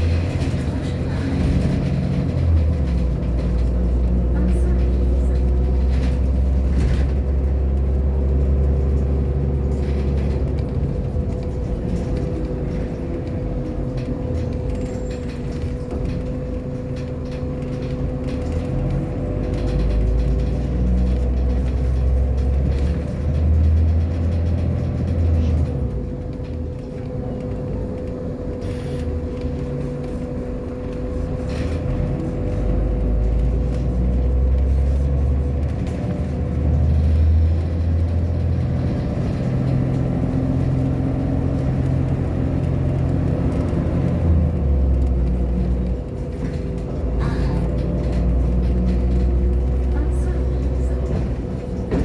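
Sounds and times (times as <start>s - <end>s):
bus engine rumbling: 0.0s - 52.0s.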